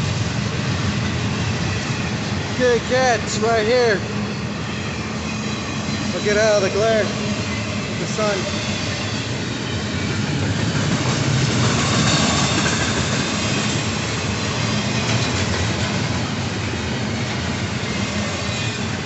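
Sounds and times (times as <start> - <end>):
freight train cars rolling past: 0.0 - 19.0.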